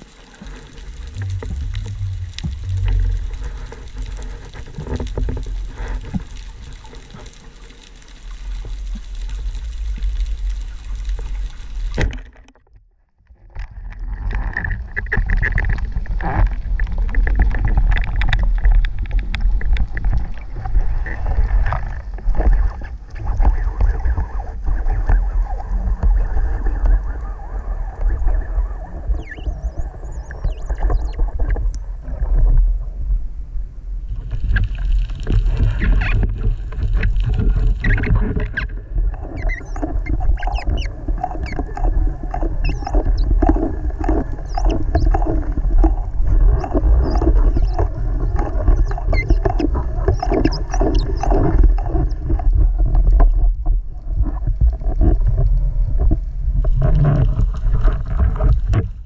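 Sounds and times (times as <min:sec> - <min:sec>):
crackling clicks: 0:00.0 - 0:32.6, 0:34.2 - 0:59.0
underwater rumble of moving water: 0:00.0 - 0:59.0.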